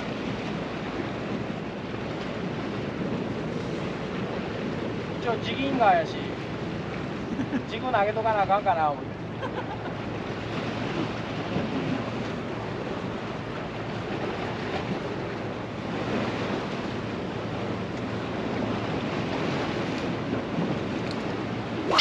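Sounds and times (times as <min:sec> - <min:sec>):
surf washing against rocks: 0:00.0 - 0:22.0
wind buffeting microphone: 0:00.0 - 0:22.0.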